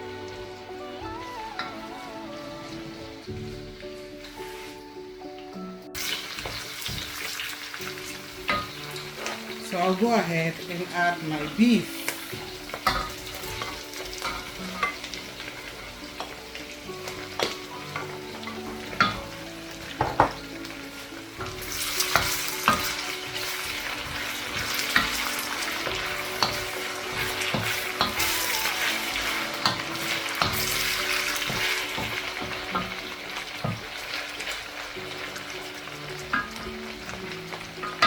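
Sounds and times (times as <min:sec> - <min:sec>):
meat sizzling in a pan: 0:00.0 - 0:38.0.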